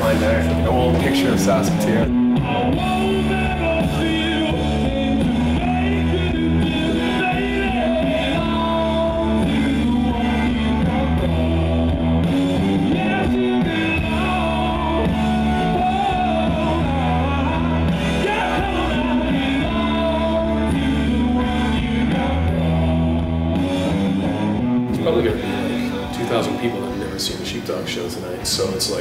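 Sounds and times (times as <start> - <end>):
man singing: 0.0 - 24.0, 24.9 - 27.6
bass guitar: 0.0 - 29.0
drums: 0.0 - 29.0
electric guitars: 0.0 - 29.0.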